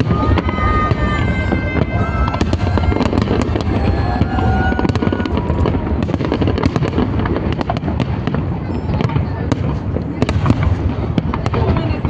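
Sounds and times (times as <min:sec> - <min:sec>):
fireworks bangs and cracks: 0:00.0 - 0:12.0
high whistling fireworks: 0:00.0 - 0:12.0.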